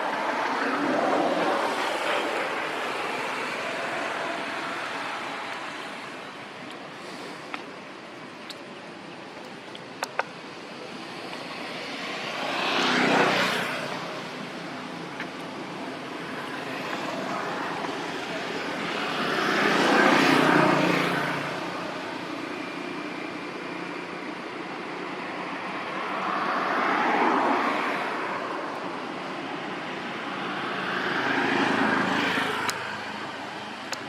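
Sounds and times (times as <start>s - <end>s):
vehicles passing by: 0.0s - 34.0s.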